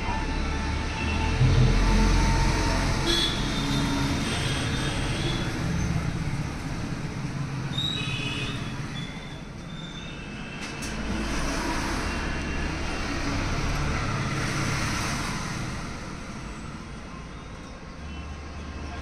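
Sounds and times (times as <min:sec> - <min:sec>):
road traffic hiss and rumble: 0:00.0 - 0:19.0.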